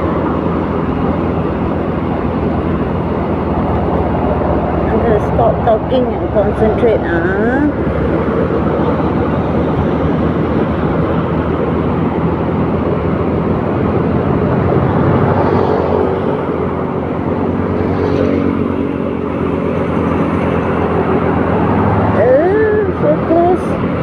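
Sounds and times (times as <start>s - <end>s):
road noise: 0.0s - 24.0s
vehicle engine drone: 0.0s - 24.0s.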